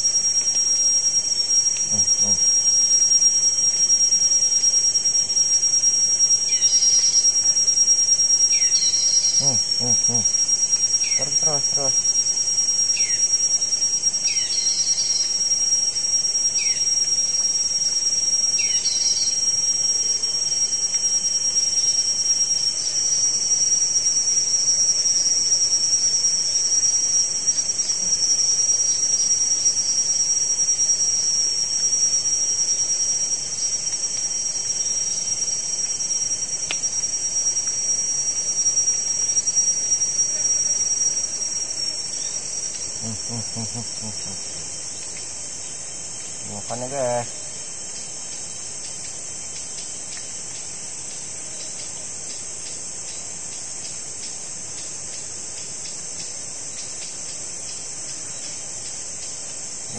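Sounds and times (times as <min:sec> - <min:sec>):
rainforest insects droning: 0:00.0 - 0:59.9.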